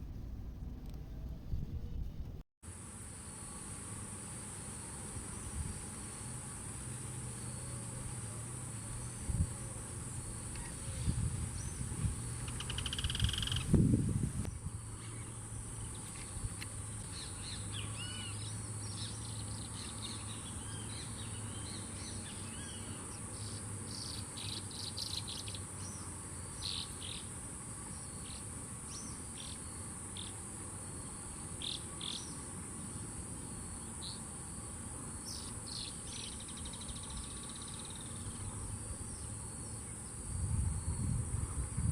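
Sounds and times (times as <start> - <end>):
high insect drone: 2.7 - 41.9.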